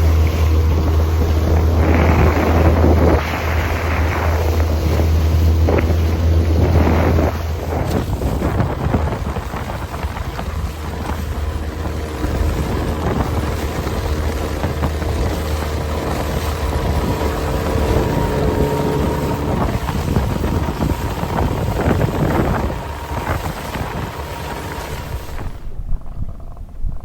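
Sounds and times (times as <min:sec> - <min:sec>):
boat motor humming: 0:00.0 - 0:27.0
wind buffeting microphone: 0:00.0 - 0:27.0.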